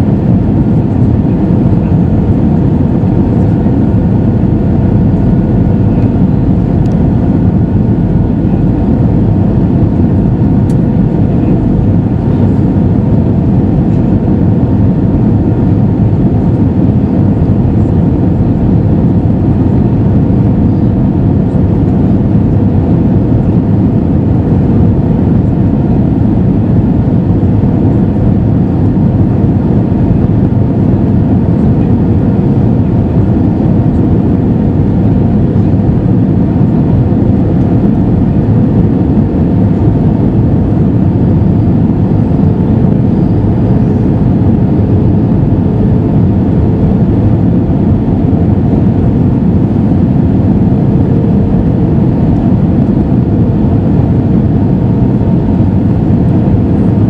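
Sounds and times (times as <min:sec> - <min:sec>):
air rushing over fuselage: 0:00.0 - 0:57.0
faint steady whine: 0:00.0 - 0:57.0
jet engines humming: 0:00.0 - 0:57.0.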